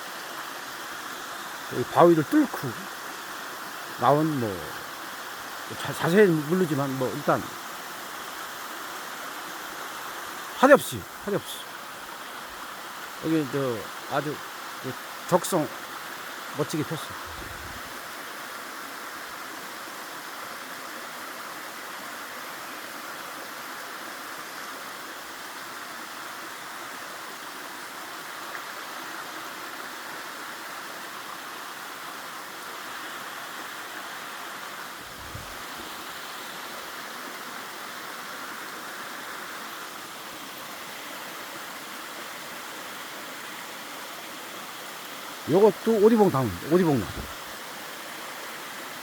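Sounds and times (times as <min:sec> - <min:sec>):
water rushing over rocks: 0:00.0 - 0:49.0.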